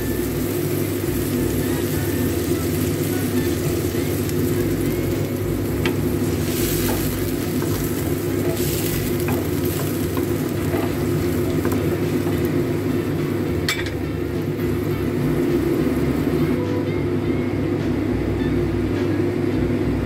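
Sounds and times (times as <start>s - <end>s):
meat sizzling and bubbling in wok: 0.0s - 18.9s
steady low hum: 0.0s - 20.0s.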